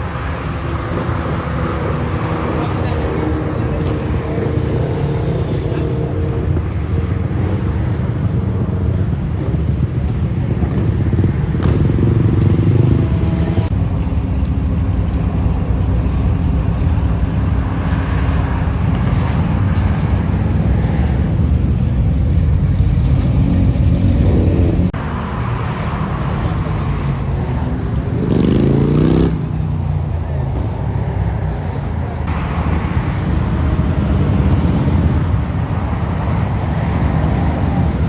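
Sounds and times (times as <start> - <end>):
motorcycle engines running: 0.0 - 38.0.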